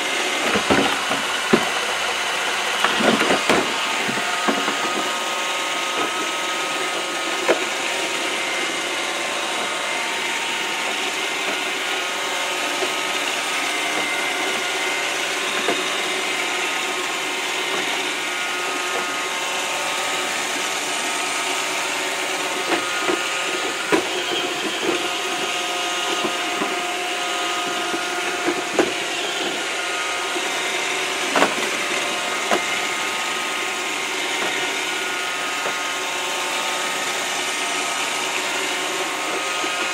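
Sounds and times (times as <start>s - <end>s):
robot vacuum whining: 0.0s - 39.9s
vacuum knocking against walls: 0.4s - 35.9s.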